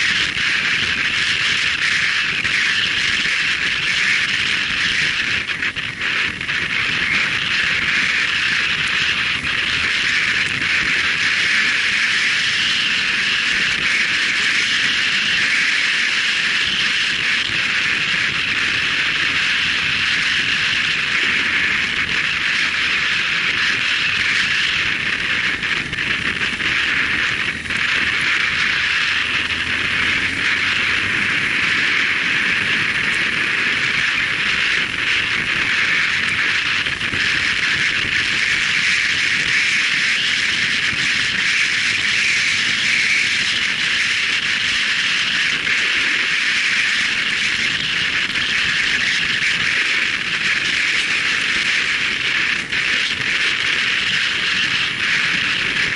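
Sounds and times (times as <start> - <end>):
wind rushing: 0.0 - 46.3
motorcycle engine running: 0.0 - 55.9
road noise: 0.0 - 55.9.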